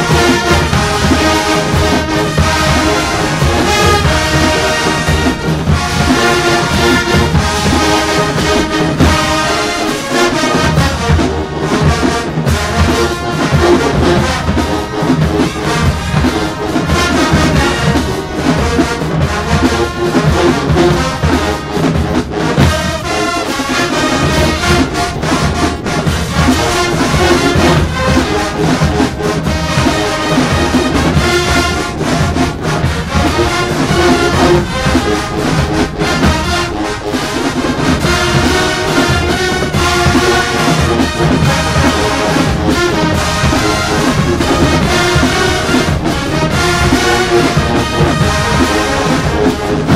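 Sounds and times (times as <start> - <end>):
drumline beat: 0.0 - 49.9
marching band brass music: 0.0 - 49.9.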